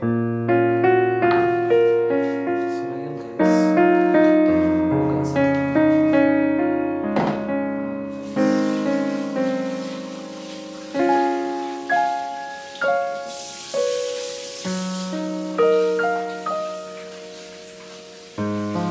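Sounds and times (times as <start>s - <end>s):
solo piano music: 0.0s - 18.9s.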